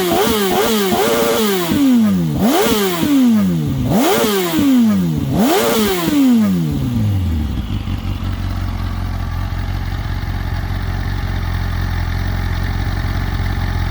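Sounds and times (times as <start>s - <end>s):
motorcycle engine idling: 0.0s - 13.9s
motorcycle engine revving: 0.0s - 13.9s.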